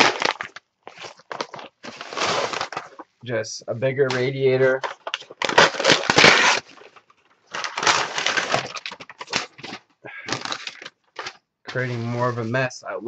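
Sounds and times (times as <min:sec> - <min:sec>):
packing paper and foam crinkling: 0:00.0 - 0:03.1, 0:04.1 - 0:12.7.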